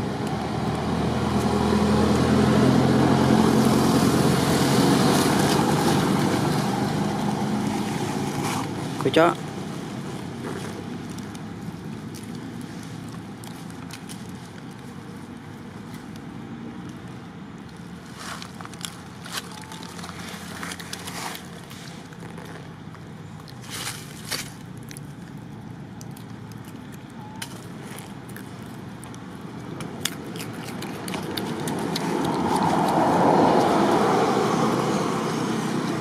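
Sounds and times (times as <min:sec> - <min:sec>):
passing motor vehicle: 0:00.0 - 0:36.0
dry leaves rustling: 0:03.5 - 0:35.0.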